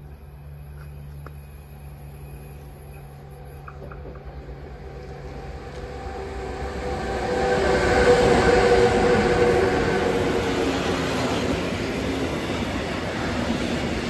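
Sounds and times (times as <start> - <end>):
electric locomotive whine: 0.0 - 14.0
train wheels rumbling on rails: 0.0 - 14.0.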